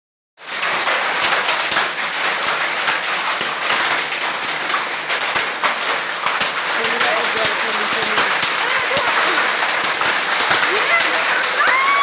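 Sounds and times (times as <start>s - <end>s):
hail and rain on concrete: 0.4s - 12.0s
sharp ticks of hailstones: 0.4s - 12.0s.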